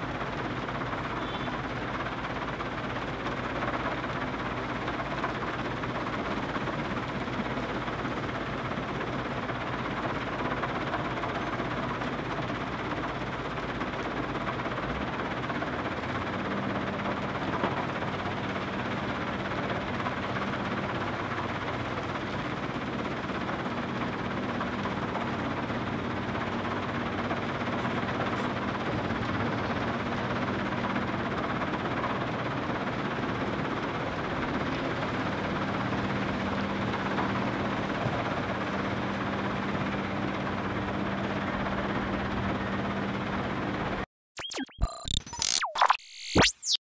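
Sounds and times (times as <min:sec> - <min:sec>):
excavator diesel engine: 0:00.0 - 0:44.1.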